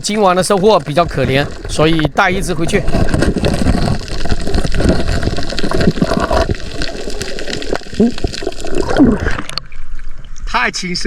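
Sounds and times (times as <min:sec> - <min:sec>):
bubbles crackling: 0:00.0 - 0:10.4
water sloshing and gurgling: 0:00.0 - 0:10.5
low underwater rumble: 0:00.8 - 0:10.4.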